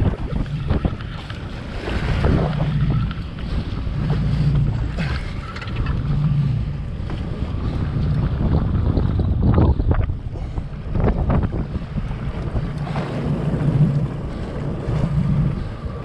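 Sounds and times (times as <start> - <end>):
jet ski engine humming: 0.0 - 16.0
waves slapping hull: 0.0 - 16.0
wind buffeting microphone: 0.0 - 16.0.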